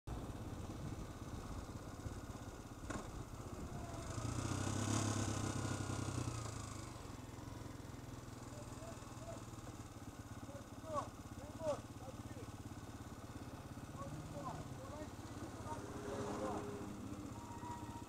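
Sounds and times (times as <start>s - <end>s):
motorcycle engine running: 0.1s - 18.0s.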